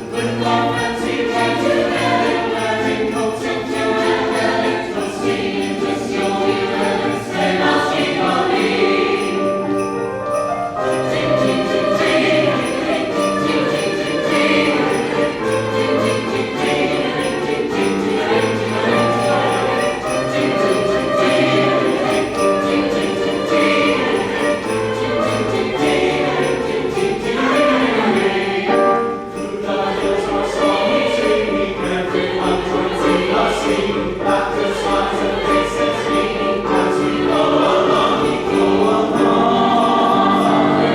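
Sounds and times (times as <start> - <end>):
choir singing: 0.0 - 40.9
sleigh bells jingling: 0.0 - 40.9.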